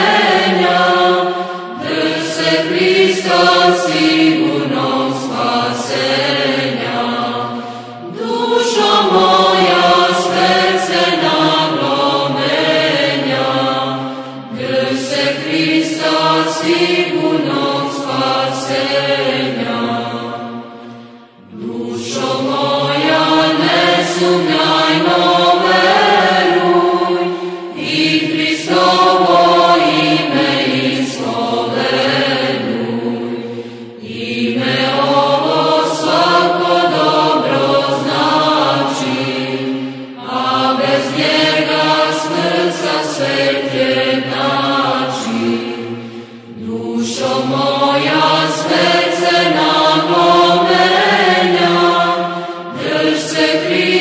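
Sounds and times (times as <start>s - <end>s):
choir chanting: 0.0s - 54.0s.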